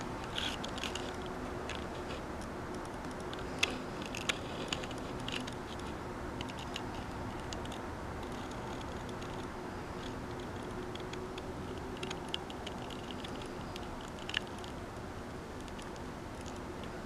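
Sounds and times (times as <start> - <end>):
faint clicks and ticks: 0.0 - 17.0
low steady hum: 0.0 - 17.0.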